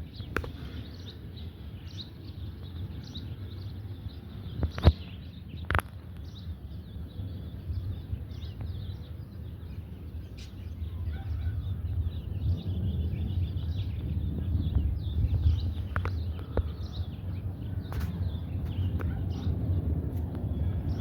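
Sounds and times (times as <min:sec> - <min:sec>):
distant jet rumble: 0:00.0 - 0:21.0
small birds chirping: 0:00.0 - 0:21.0.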